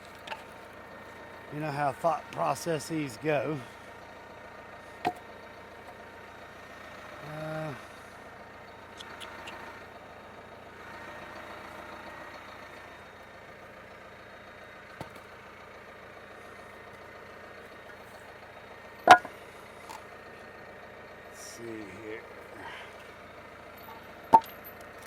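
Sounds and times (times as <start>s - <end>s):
engine idling faintly: 0.0s - 25.0s.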